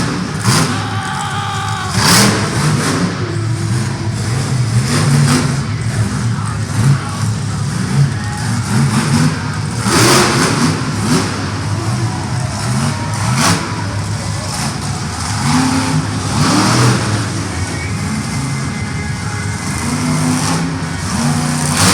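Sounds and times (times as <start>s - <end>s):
monster truck engines revving: 0.0s - 21.9s.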